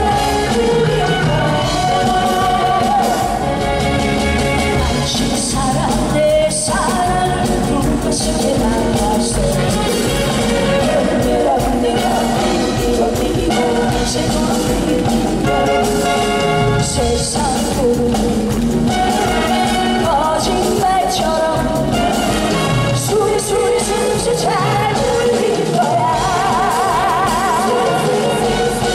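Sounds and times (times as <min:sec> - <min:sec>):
woman singing into a microphone: 0:00.0 - 0:03.7, 0:04.5 - 0:19.0, 0:19.9 - 0:28.9
loud backing music: 0:00.0 - 0:28.9.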